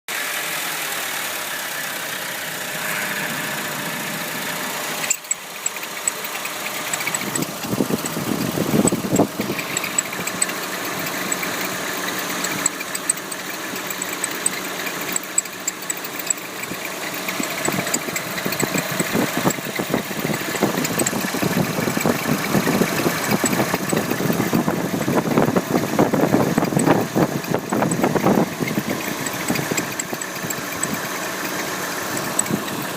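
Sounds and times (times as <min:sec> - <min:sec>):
car engine idling: 0:00.1 - 0:32.9
engine squeak: 0:01.6 - 0:32.9.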